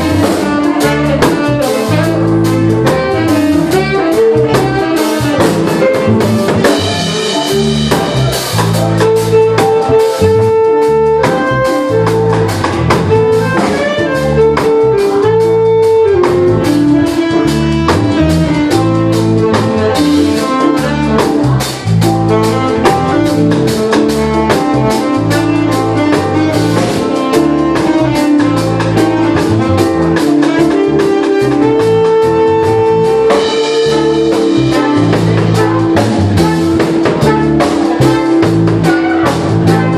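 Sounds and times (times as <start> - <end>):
drum kit: 0.0 - 39.9
low bass line: 0.0 - 39.9
saxophone melody: 0.0 - 39.9.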